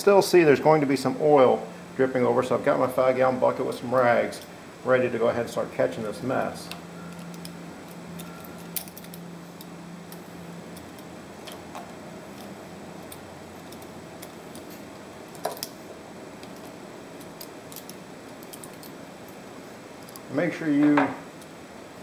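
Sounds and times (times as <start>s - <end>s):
recording static hiss: 0.0s - 22.0s.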